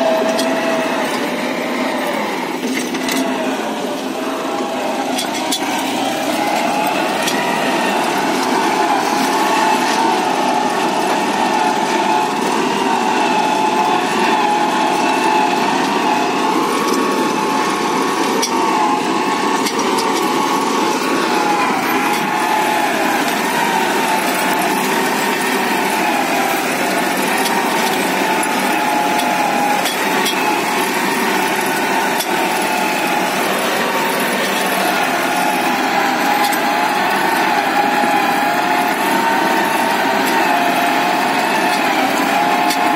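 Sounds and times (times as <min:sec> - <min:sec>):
tractor engine under load: 0:00.0 - 0:42.9.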